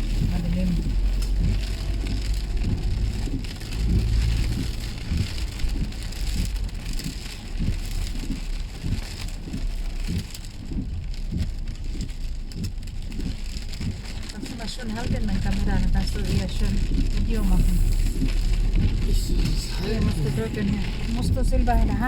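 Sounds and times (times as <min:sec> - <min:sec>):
car driving rumble: 0:00.0 - 0:22.0
heavy rain on car roof: 0:00.0 - 0:22.0.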